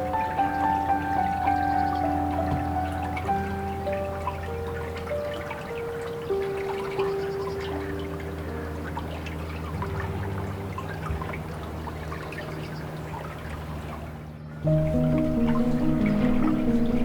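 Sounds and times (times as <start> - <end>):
soft ambient music: 0.0 - 17.0
water trickling and dripping: 0.0 - 17.0.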